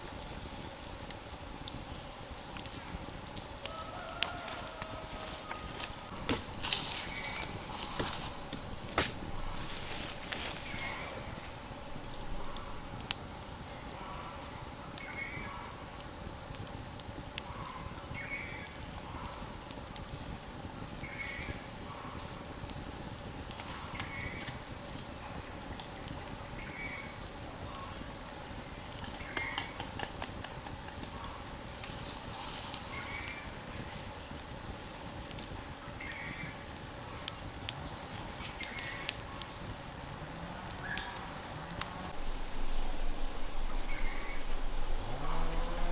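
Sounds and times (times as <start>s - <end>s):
insect trill: 0.0s - 45.9s.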